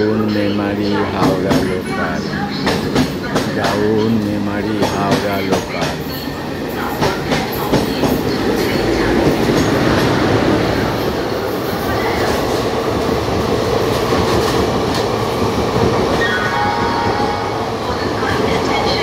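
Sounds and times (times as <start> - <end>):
train coaches rumbling past: 0.0 - 19.0.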